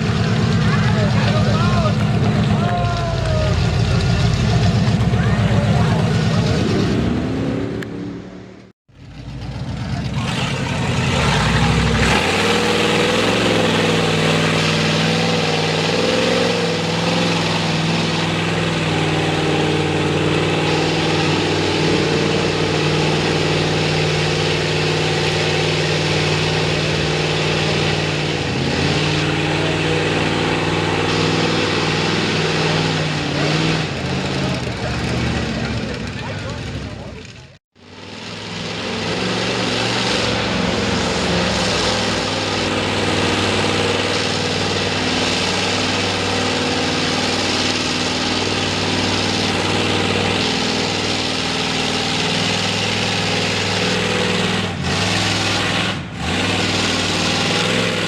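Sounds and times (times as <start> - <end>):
loud truck engine running: 0.0 - 58.0.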